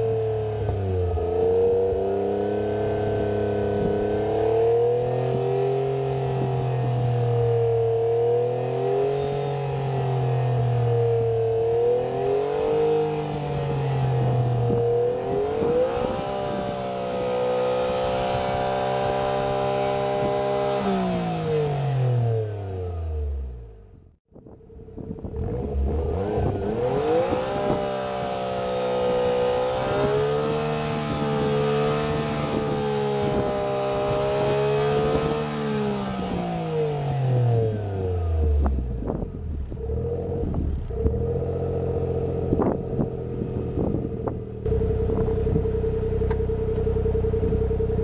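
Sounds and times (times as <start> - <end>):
car engine revving: 0.6 - 23.7, 25.0 - 48.0.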